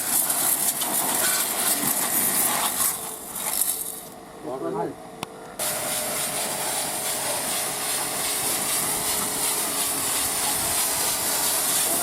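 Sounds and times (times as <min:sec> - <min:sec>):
pressure washer spraying water: 0:00.0 - 0:04.1, 0:05.6 - 0:12.0
pump whine: 0:00.0 - 0:12.0.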